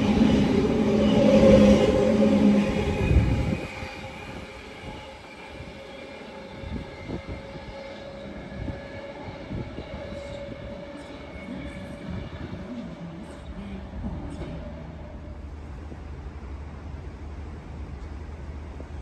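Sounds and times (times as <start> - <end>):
train rumbling through station: 0.0 - 19.0.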